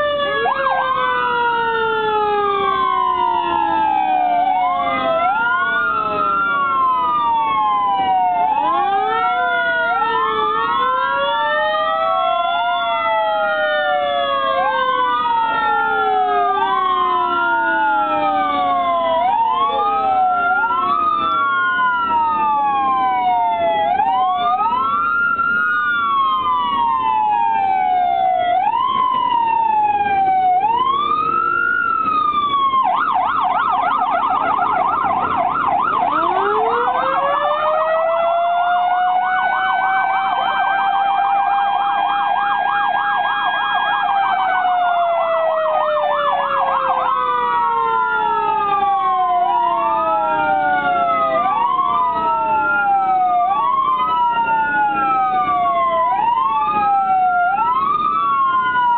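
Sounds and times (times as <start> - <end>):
electronic siren wailing and yelping: 0.0 - 58.9
mechanical siren howling: 0.0 - 58.9.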